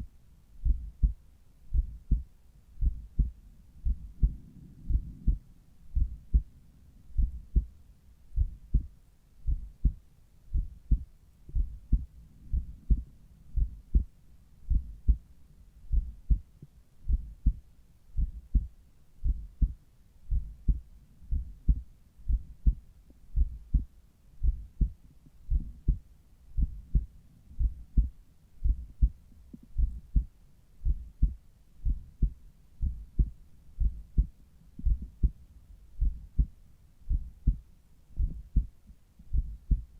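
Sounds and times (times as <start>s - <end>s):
heartbeat through stethoscope: 0.6s - 6.5s, 7.1s - 7.8s, 8.4s - 15.3s, 15.9s - 17.6s, 18.2s - 35.4s, 36.0s - 39.9s.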